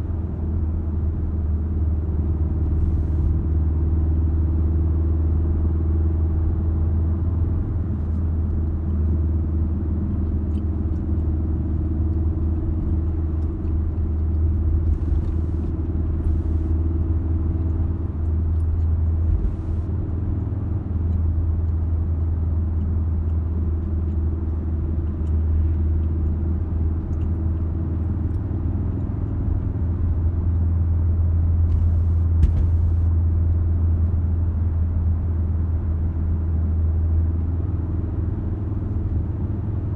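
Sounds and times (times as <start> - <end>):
engine and tyre drone in car: 0.0 - 39.9.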